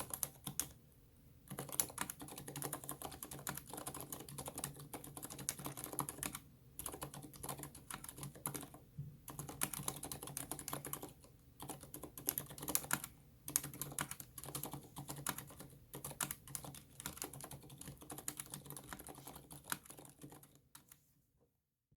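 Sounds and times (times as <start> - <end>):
typing on mechanical keyboard: 0.0 - 0.8, 1.5 - 21.0.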